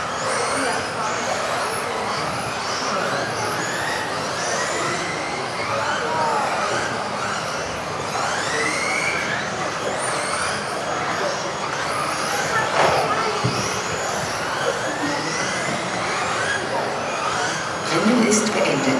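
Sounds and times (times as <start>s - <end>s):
electric motors whining: 0.0s - 18.9s.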